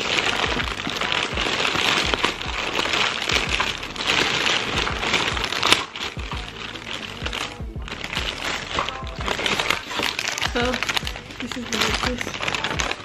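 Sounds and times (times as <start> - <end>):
background music: 0.0 - 13.0
paper bag crinkling: 0.0 - 13.0.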